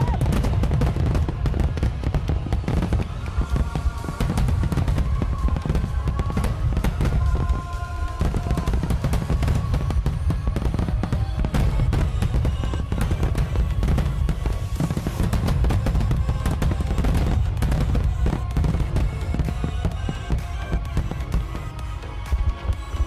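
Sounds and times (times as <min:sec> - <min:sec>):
fireworks bangs and crackling: 0:00.0 - 0:23.0
music with held notes: 0:00.3 - 0:23.0.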